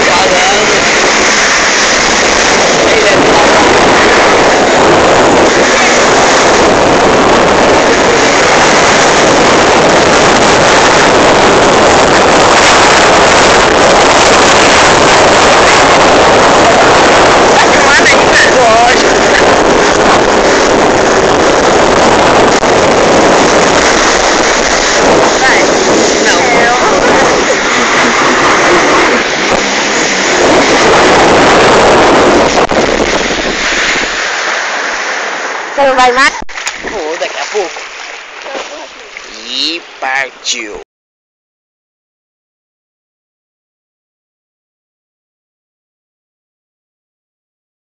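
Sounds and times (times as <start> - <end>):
jet ski engine: 0.0 - 40.8
water noise: 0.0 - 40.8
wind buffeting microphone: 0.0 - 40.8.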